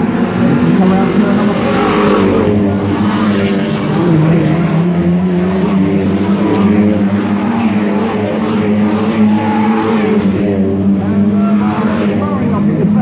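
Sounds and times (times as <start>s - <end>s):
race car engines passing: 0.0s - 13.0s.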